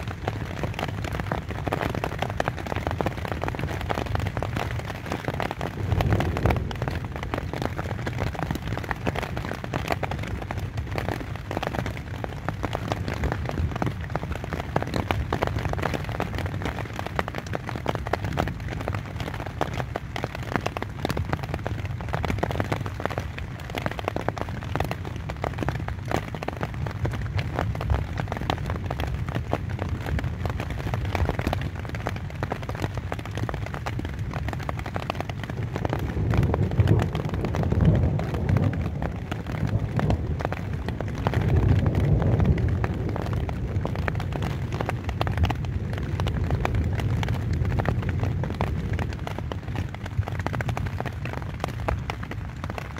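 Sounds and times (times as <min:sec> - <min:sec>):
rain on tent fabric: 0:00.0 - 0:52.9.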